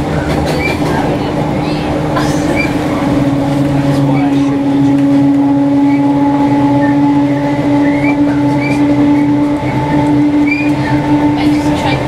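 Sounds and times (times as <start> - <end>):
noisy rumble: 0.0 - 12.0
train interior hum: 0.0 - 12.0.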